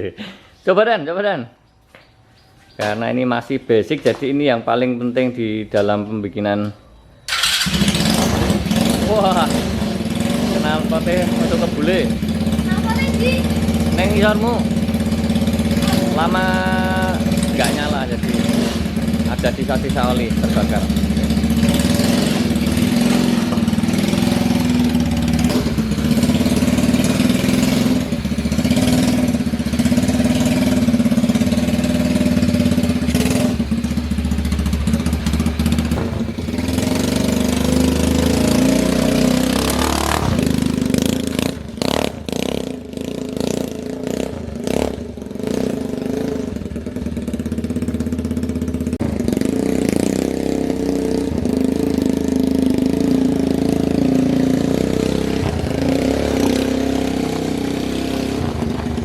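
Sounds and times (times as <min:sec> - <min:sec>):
motorcycle engine revving: 0:07.3 - 0:59.0.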